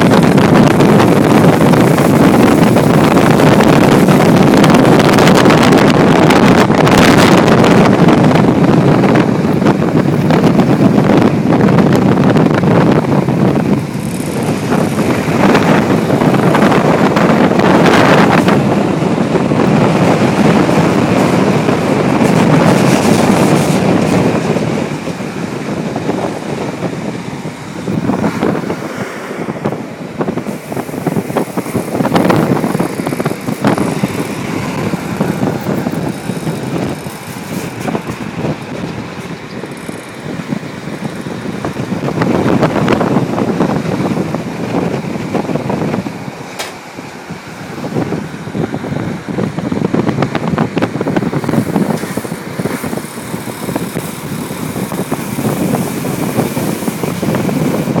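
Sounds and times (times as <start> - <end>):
rumble of train wheels: 0.0 - 58.0
rushing air: 0.0 - 58.0.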